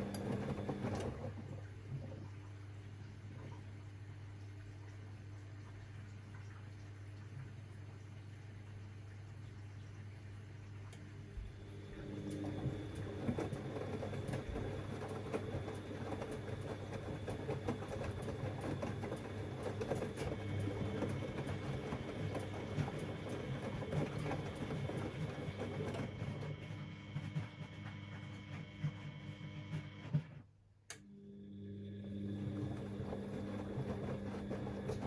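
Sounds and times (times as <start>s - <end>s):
washing machine motor humming: 0.0s - 4.2s, 10.6s - 30.4s, 31.0s - 35.0s.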